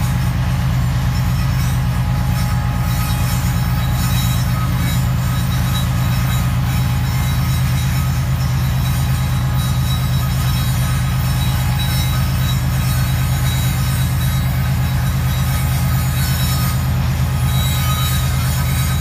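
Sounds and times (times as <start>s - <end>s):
diesel locomotive engine drone: 0.0s - 19.0s
faint wheel grinding: 0.0s - 19.0s.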